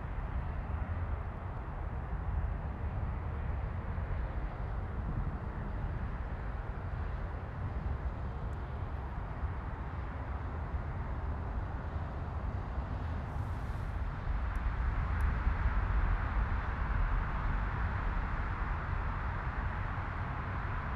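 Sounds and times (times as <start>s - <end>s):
jet engines at takeoff: 0.0s - 20.9s.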